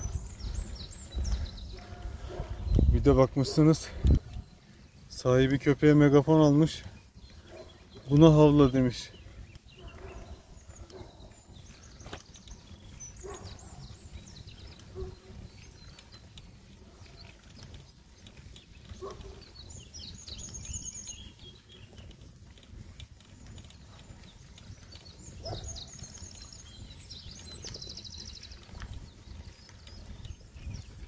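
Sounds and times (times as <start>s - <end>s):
wind rumble on microphone: 0.0s - 5.2s, 6.8s - 31.0s
songbirds chirping: 0.0s - 31.0s.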